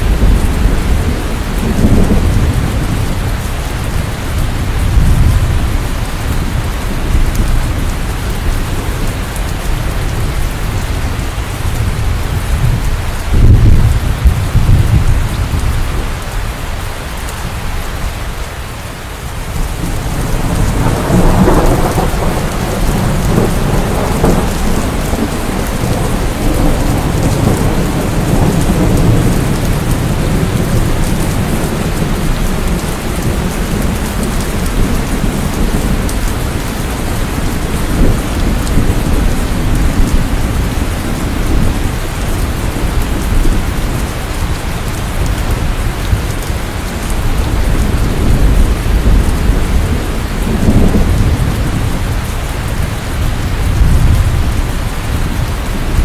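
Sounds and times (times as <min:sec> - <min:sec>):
thunder clap and rumble: 0:00.0 - 0:18.4, 0:19.1 - 0:56.0
heavy rain: 0:00.0 - 0:56.0.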